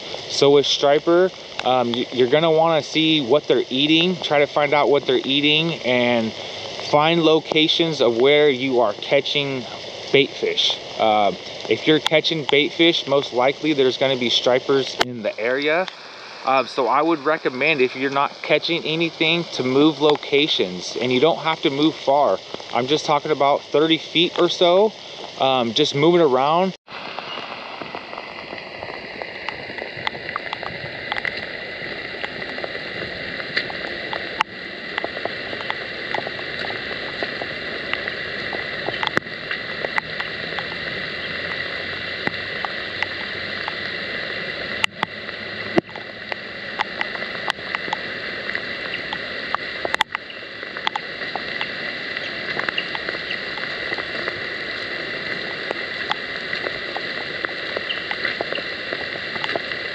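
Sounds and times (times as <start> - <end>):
heavy rain and rushing water: 0.0 - 59.9.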